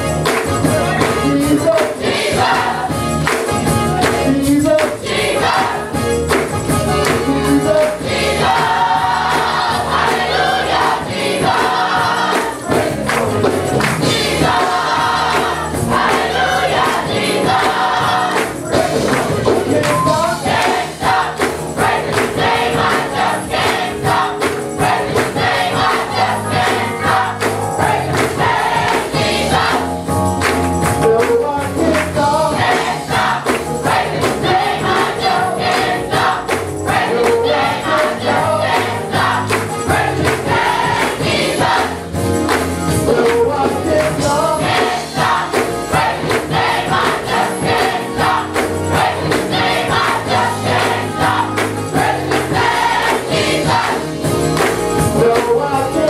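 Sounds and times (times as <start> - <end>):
band accompaniment: 0.0 - 56.0
gospel choir singing: 0.0 - 56.0
steady percussive beat: 0.0 - 56.0.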